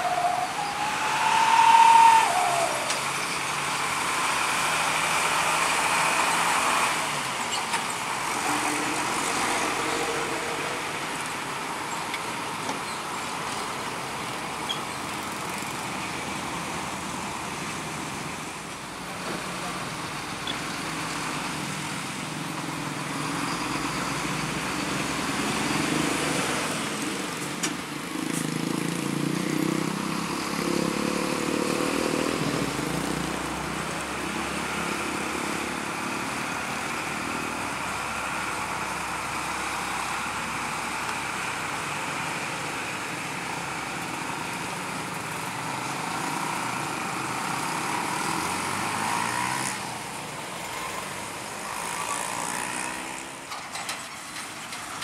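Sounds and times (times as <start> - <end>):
diesel truck engines under load: 0.0 - 55.0
passing traffic: 0.0 - 55.0.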